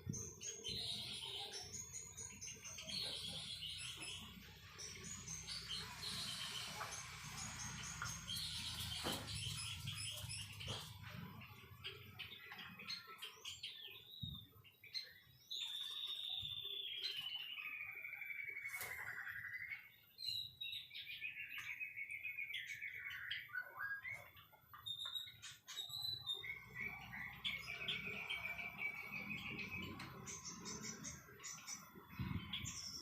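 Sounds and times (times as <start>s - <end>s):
songbird singing trills: 0.0s - 33.0s.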